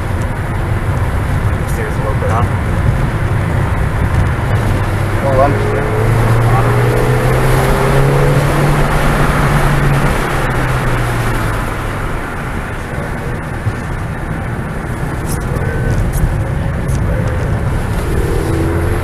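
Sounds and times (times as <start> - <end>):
car engine pulling under throttle: 0.0 - 19.0
road tyre and wind noise: 0.0 - 19.0.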